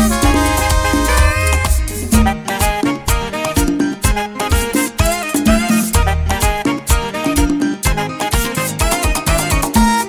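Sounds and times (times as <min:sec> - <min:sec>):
latin dance band instrumental: 0:00.0 - 0:10.0
percussion steady beat: 0:00.0 - 0:10.0.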